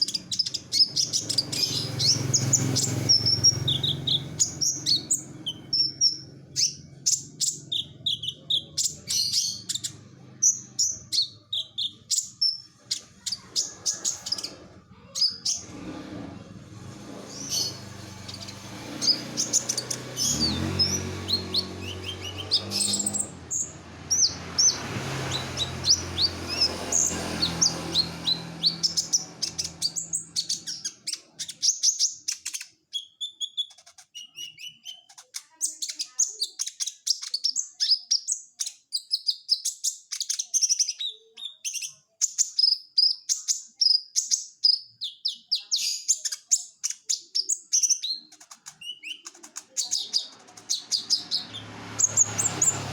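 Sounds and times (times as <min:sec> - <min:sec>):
sunbird chirping and trilling: 0:00.0 - 0:15.7, 0:16.8 - 0:52.9.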